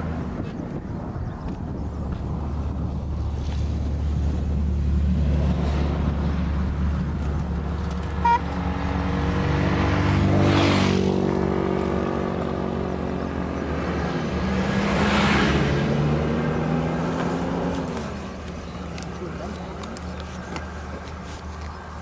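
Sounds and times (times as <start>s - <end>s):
engine revving under load: 2.8s - 21.5s.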